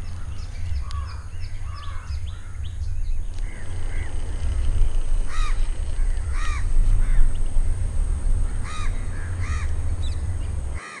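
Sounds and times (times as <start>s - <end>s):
steady low rumble: 0.0s - 10.8s
birds harsh calls: 0.0s - 11.0s.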